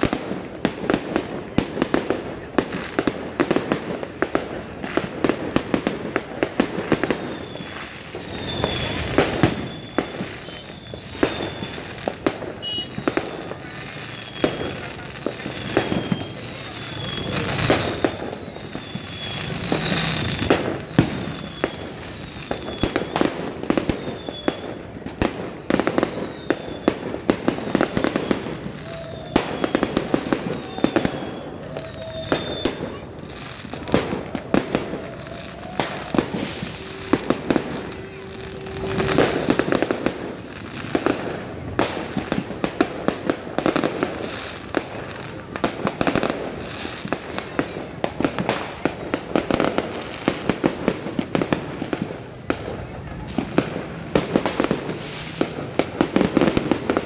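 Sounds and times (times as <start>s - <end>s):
fireworks bangs and crackling: 0.0s - 57.0s
high falling firework whistles: 3.2s - 57.0s.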